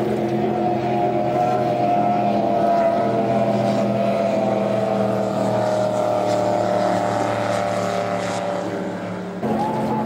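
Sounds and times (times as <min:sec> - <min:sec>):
powerboat engines droning: 0:00.0 - 0:10.0.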